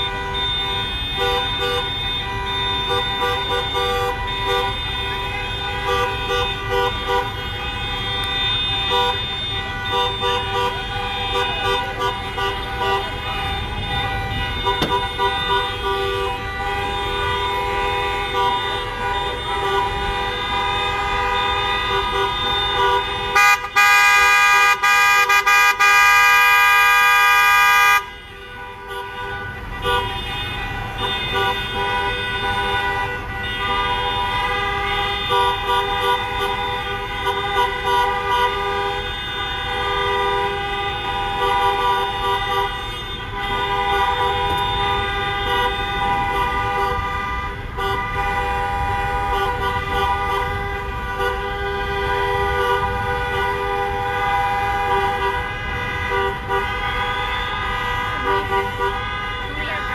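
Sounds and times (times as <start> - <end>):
loud close car horn: 0.0 - 59.9
many car horns honking: 0.0 - 59.9.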